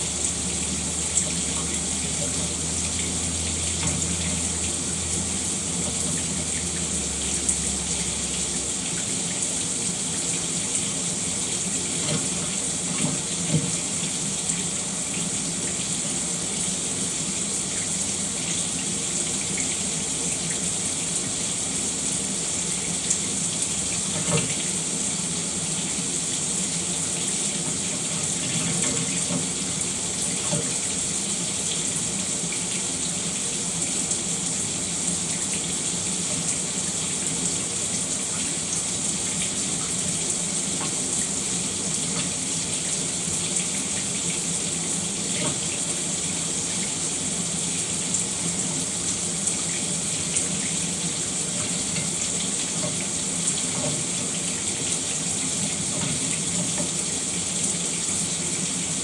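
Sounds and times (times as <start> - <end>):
shower running: 0.0 - 59.0
water spattering and splashing: 0.0 - 59.0.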